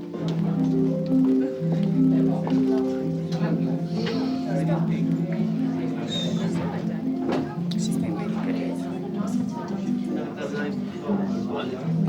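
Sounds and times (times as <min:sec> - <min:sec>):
music melody of held notes: 0:00.0 - 0:12.0.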